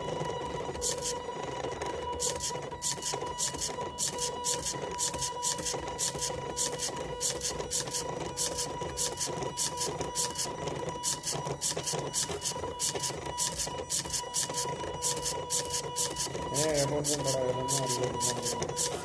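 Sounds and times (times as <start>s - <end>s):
steady high whine: 0.0s - 19.0s
stepper motors buzzing: 0.0s - 19.0s.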